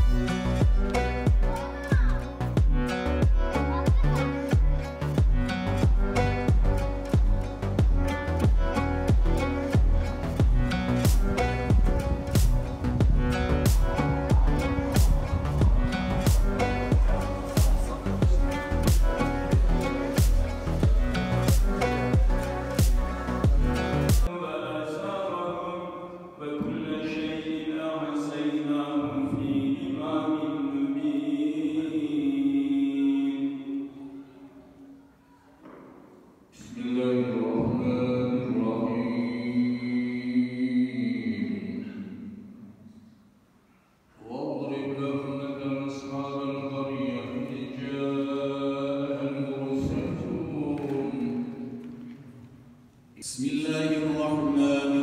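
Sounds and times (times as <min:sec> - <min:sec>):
person chanting: 0:00.0 - 0:07.2, 0:10.6 - 0:35.8, 0:36.5 - 0:43.0, 0:44.2 - 0:52.4, 0:53.2 - 0:55.0.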